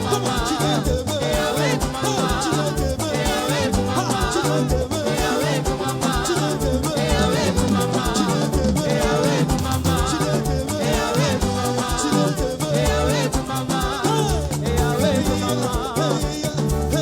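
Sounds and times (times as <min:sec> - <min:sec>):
live praise band music: 0:00.0 - 0:17.0
shaker percussion: 0:00.0 - 0:17.0.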